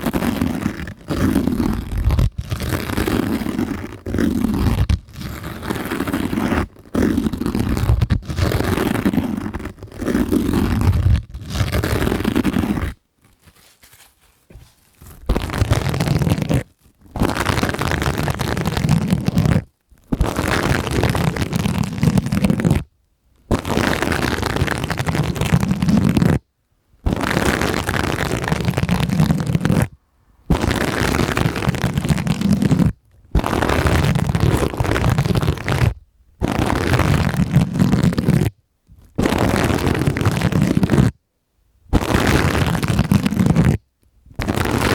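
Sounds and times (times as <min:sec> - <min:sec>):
sponges rubbing against microphone: 0:00.0 - 0:22.9, 0:23.5 - 0:26.4, 0:27.0 - 0:41.2, 0:41.9 - 0:43.8, 0:44.4 - 0:44.9.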